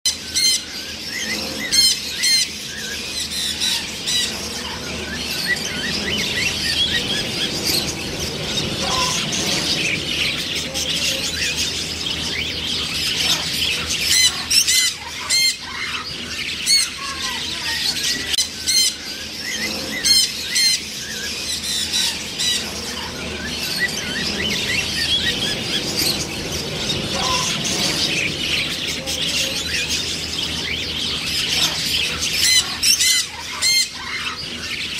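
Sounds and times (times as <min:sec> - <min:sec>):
chatter of many birds calling: 0:00.1 - 0:34.9
macaws squawking: 0:00.1 - 0:34.9.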